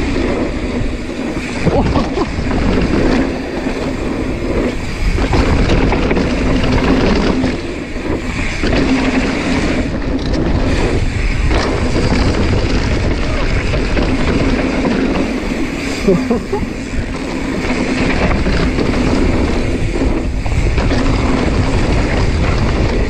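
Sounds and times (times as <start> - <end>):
bike tyres rolling on dirt: 0.0 - 23.0
wind on camera microphone: 0.0 - 23.0.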